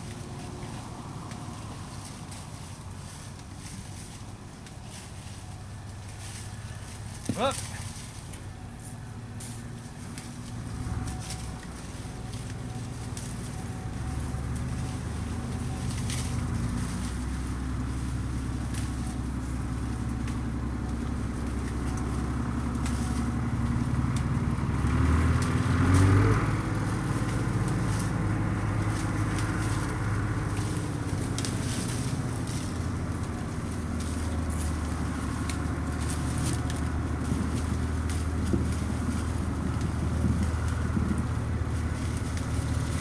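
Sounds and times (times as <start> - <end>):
engine running: 0.0 - 43.0
faint clicks and rustles: 0.0 - 43.0.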